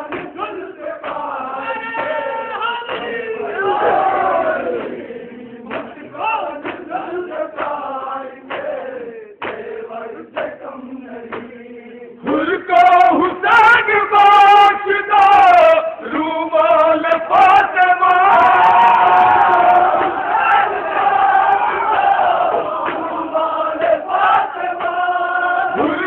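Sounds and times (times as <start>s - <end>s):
men chanting into a microphone: 0.0s - 26.0s.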